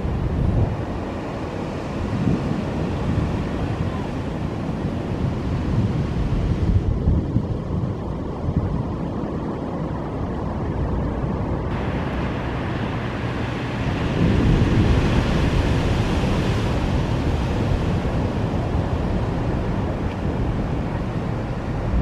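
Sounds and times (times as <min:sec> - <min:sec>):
sea surf washing ashore: 0:00.0 - 0:22.0
wind buffeting microphone: 0:00.0 - 0:22.0.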